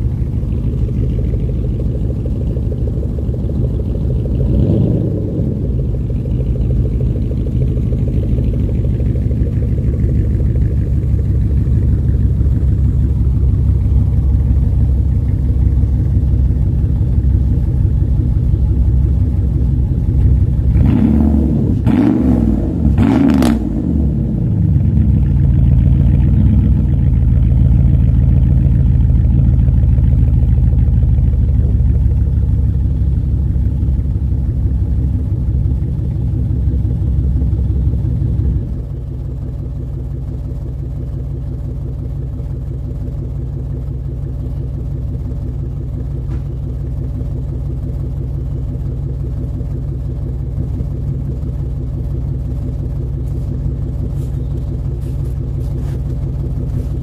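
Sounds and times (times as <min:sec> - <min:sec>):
car engine idling: 0:00.0 - 0:57.0
engine throttle blips: 0:00.0 - 0:57.0.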